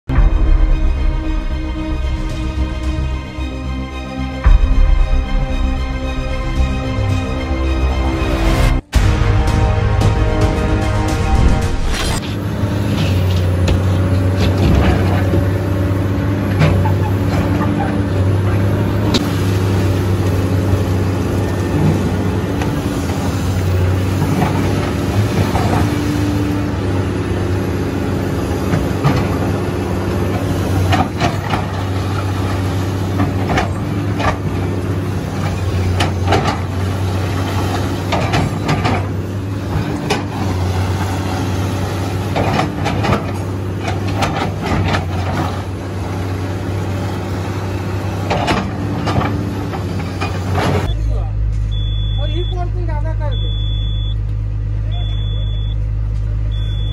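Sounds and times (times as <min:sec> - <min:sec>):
excavator diesel engine running: 0:00.1 - 0:56.9.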